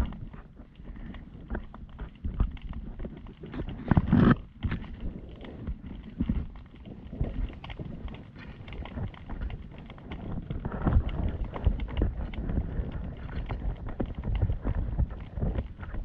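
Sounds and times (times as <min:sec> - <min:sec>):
small waves slapping hull: 0:00.0 - 0:16.0.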